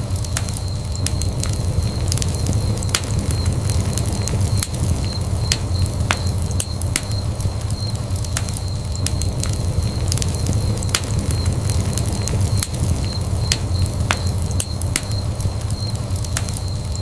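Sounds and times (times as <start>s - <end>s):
fire crackles and pops: 0.0s - 17.0s
wood fire rumbling: 0.0s - 17.0s.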